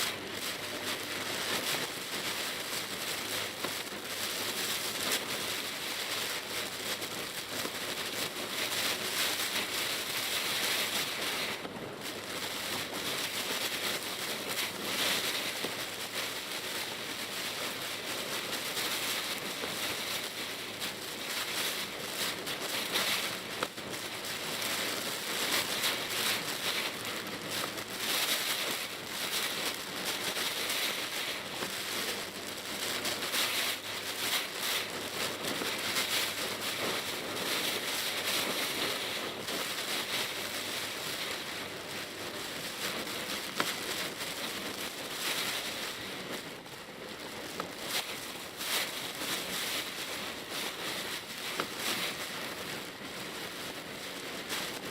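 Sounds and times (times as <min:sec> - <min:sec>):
rain drops on car roof: 0:00.0 - 0:54.9.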